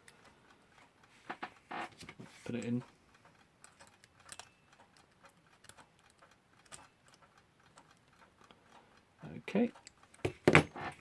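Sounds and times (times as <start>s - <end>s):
faint mechanical clock ticking: 0.0s - 10.3s.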